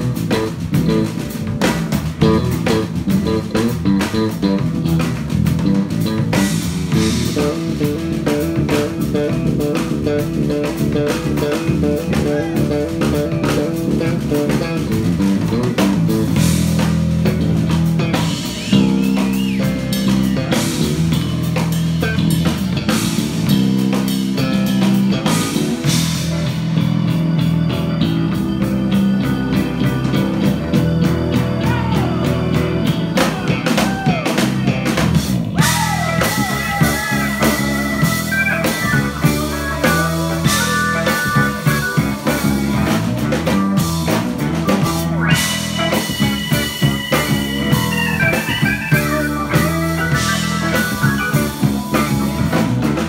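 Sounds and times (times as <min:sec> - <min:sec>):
band playing blues-rock: 0:00.0 - 0:53.0
bent electric guitar lead notes: 0:00.0 - 0:53.0
electric bass line: 0:00.0 - 0:53.0.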